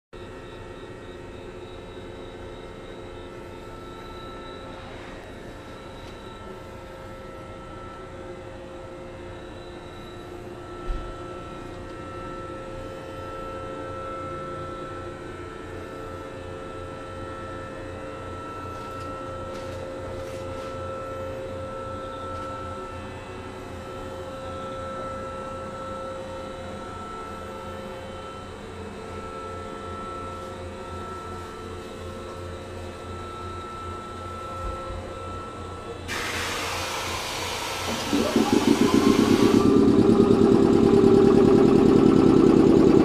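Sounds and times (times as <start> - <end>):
electric train hum and whine: 0.2 - 43.0.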